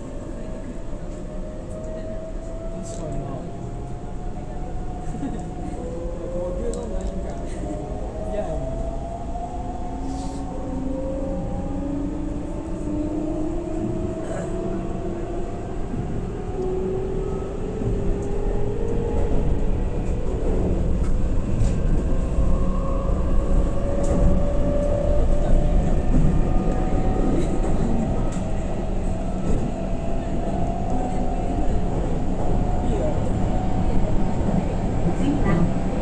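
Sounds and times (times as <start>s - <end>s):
wheels rumbling on rail: 0.0s - 36.0s.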